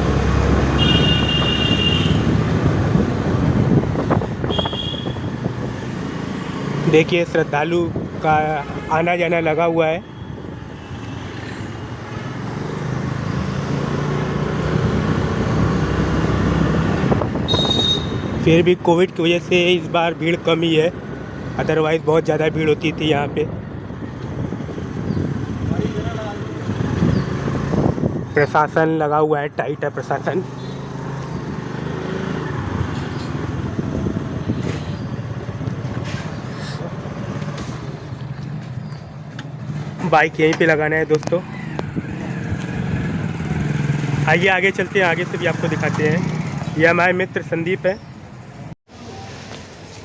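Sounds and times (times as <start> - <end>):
motorcycle engine and road noise: 0.0 - 50.0
traffic noises: 0.0 - 50.0.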